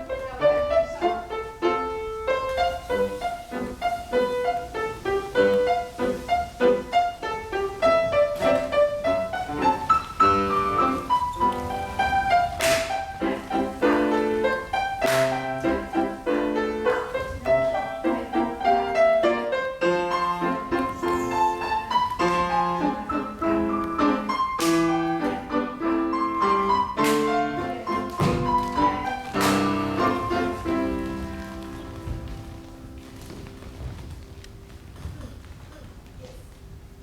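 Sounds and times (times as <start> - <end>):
classical piano accompaniment: 0.0 - 37.0.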